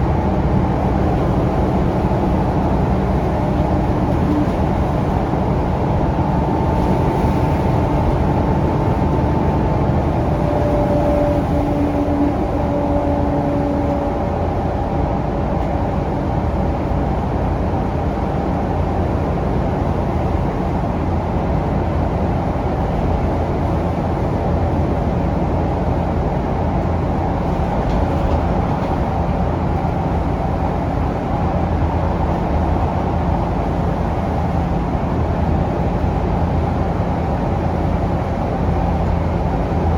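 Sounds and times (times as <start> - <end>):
bus diesel engine rumble: 0.0 - 39.9.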